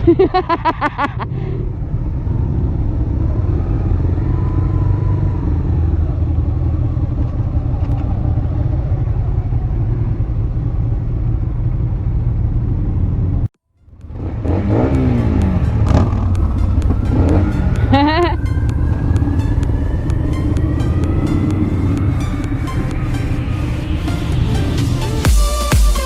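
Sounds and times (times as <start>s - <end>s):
motorcycle engine rumbling: 0.0s - 25.4s.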